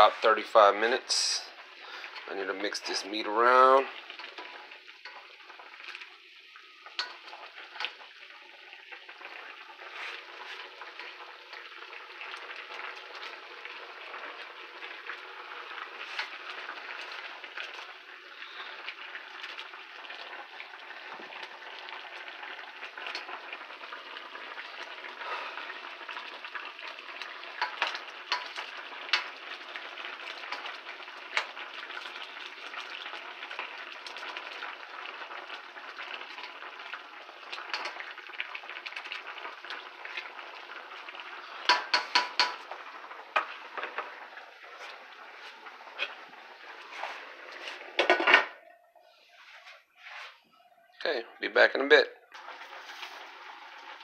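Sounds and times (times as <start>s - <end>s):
meat sizzling in a pot: 0.0s - 48.6s, 52.3s - 54.0s.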